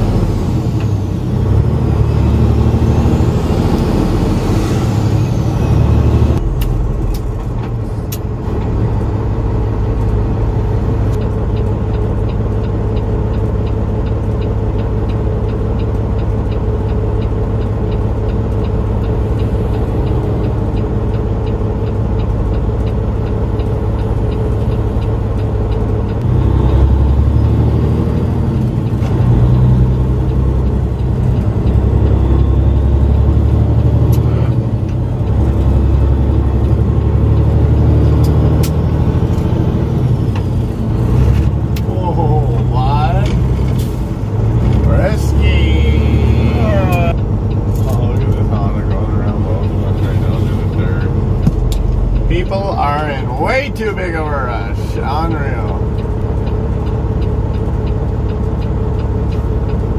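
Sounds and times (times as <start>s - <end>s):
diesel truck engine rumbling: 0.0s - 59.9s.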